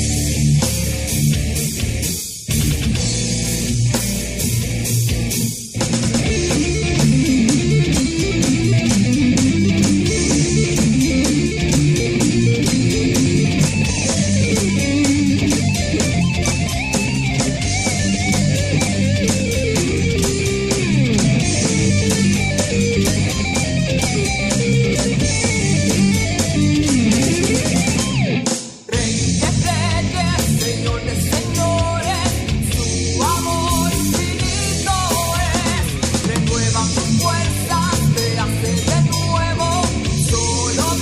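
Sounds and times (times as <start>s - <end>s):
bass guitar: 0.0s - 41.0s
electric guitar riffing: 0.0s - 41.0s
heavy metal band playing: 0.0s - 41.0s
steady drum beat: 0.0s - 41.0s.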